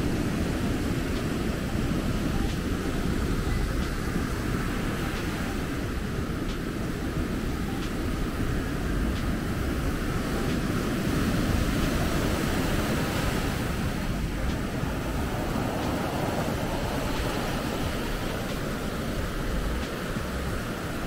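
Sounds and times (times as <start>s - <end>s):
surf washing onto beach: 0.0s - 21.0s.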